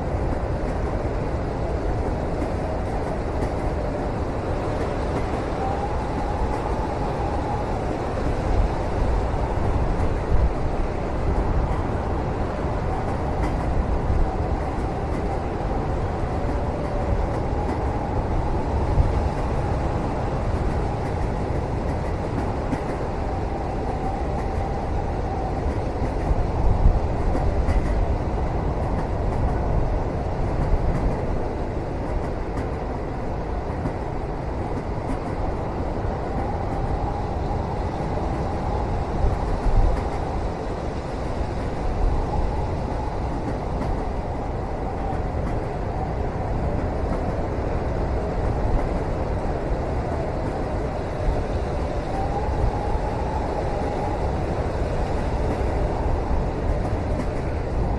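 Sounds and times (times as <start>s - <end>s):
train running on rails: 0.0s - 57.9s.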